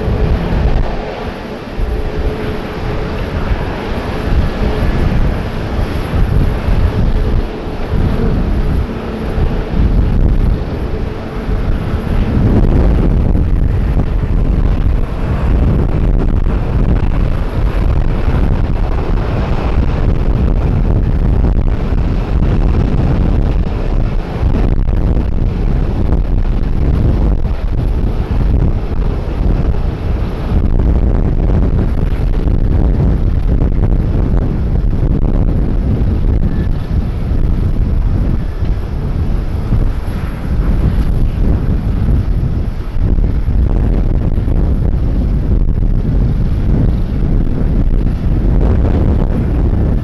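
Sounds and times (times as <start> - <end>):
jet engines rushing: 0.0 - 50.0
wind rumbling on microphone: 0.0 - 50.0.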